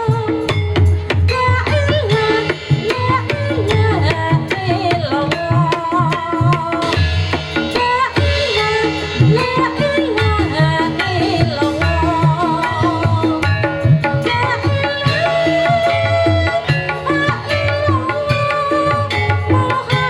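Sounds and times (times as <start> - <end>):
hand drums beating: 0.0 - 20.0.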